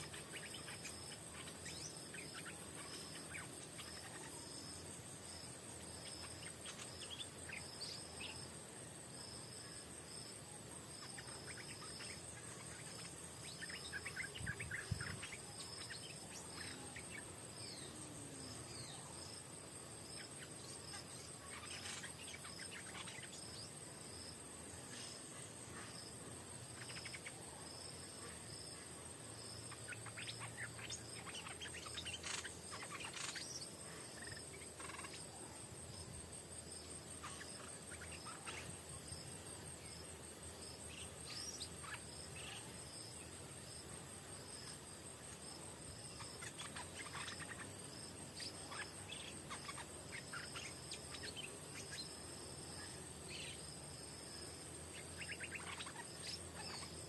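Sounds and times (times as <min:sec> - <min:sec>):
bulbuls chirping: 0:00.0 - 0:09.9, 0:10.8 - 0:43.4, 0:44.2 - 0:57.0
high-pitched insect drone: 0:00.0 - 0:25.2, 0:25.8 - 0:57.0.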